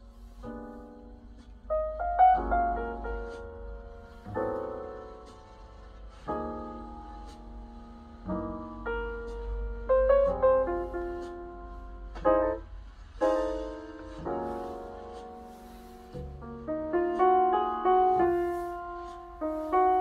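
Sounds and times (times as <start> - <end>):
jazz piano chords over speakers: 0.0 - 20.0.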